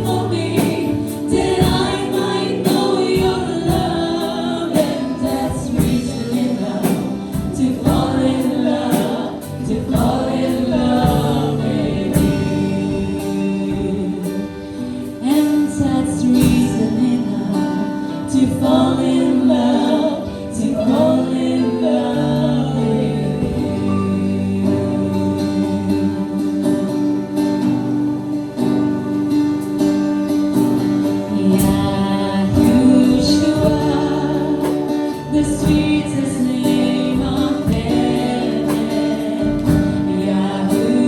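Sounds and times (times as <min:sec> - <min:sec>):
group singing praise song: 0:00.0 - 0:27.3, 0:30.5 - 0:41.0.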